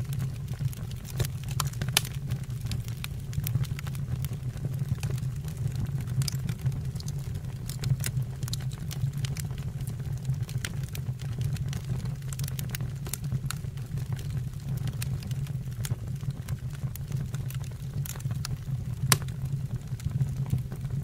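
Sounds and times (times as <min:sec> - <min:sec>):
fire crackling and popping: 0:00.0 - 0:21.0
fire low rumble: 0:00.0 - 0:21.0.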